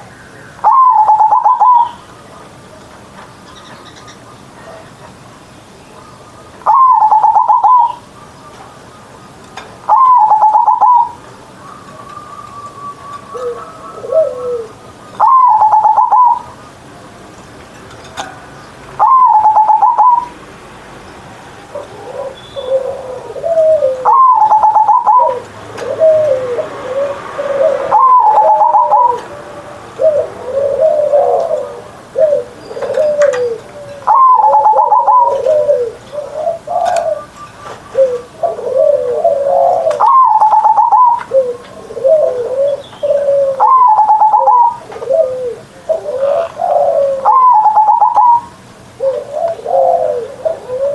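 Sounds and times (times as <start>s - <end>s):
dove cooing: 0.6s - 2.0s, 6.0s - 8.6s, 9.8s - 16.7s, 18.0s - 20.4s, 21.7s - 50.9s.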